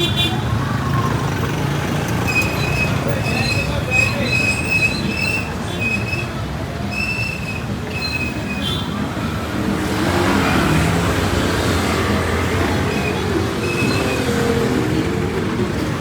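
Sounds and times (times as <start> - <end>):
passing vehicles rushing: 0.0 - 16.0
traffic rumble: 0.0 - 16.0.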